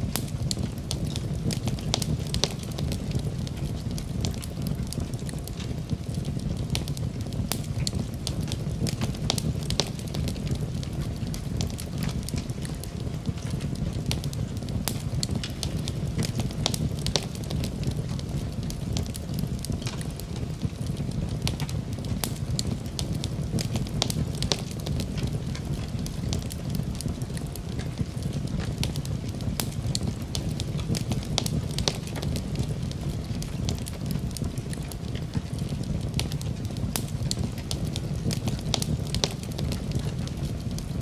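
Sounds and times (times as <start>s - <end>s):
burning wood crackling and popping: 0.0s - 41.0s
fire flames rumbling: 0.0s - 41.0s.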